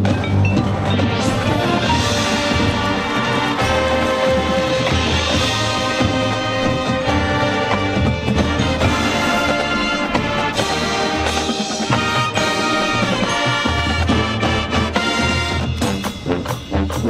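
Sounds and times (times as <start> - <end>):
marching band playing: 0.0 - 17.0.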